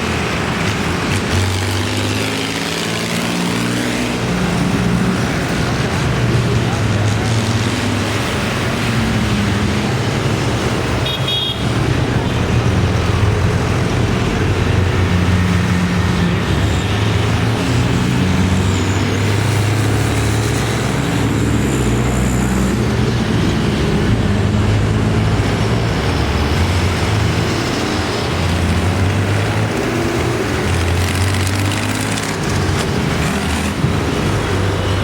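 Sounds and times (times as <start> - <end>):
tractor engines passing: 0.0 - 35.0.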